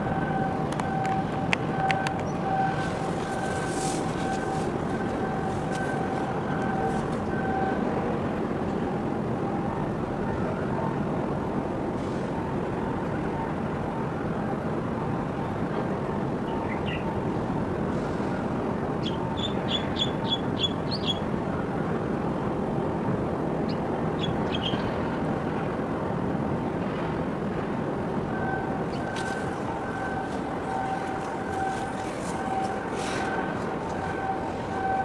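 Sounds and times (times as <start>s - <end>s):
busy harbour background noise: 0.0s - 35.0s.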